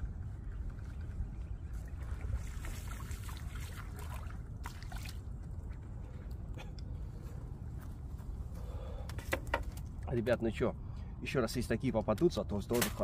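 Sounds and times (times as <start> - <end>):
wind rumble on microphone: 0.0 - 12.7.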